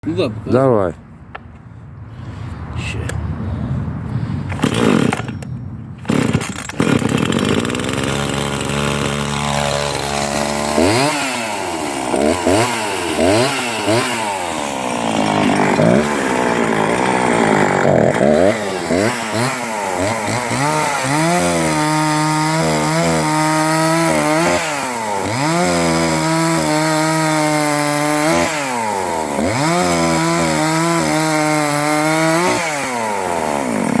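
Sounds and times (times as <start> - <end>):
chainsaw cutting wood: 4.5 - 34.0.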